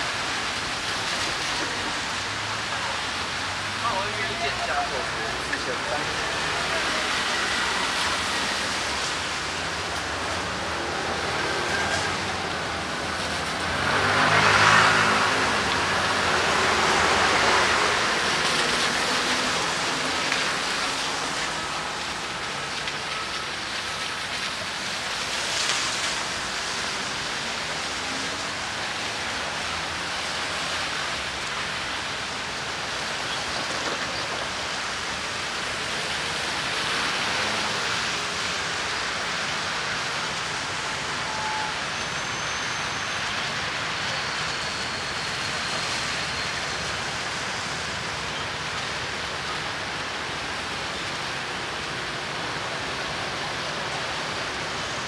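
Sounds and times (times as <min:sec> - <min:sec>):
rain on a street: 0:00.0 - 0:55.0
vehicle passing on wet road: 0:00.0 - 0:55.0.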